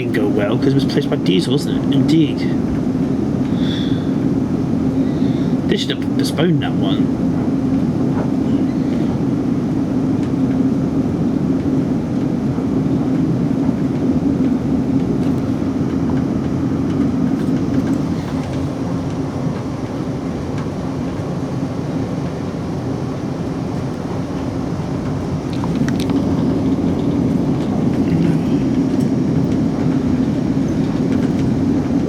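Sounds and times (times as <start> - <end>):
train carriage running drone: 0.0 - 32.0.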